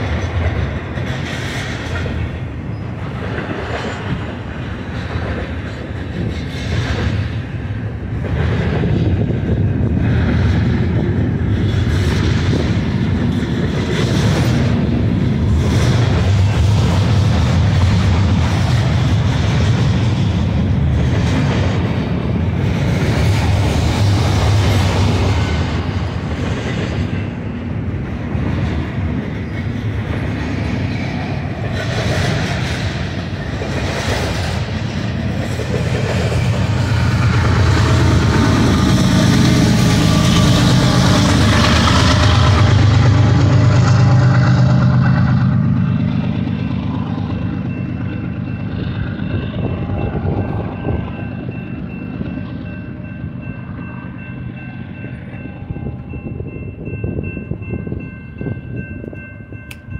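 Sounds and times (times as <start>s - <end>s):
train wheel clatter: 0.0s - 53.8s
freight train rumble: 0.0s - 59.9s.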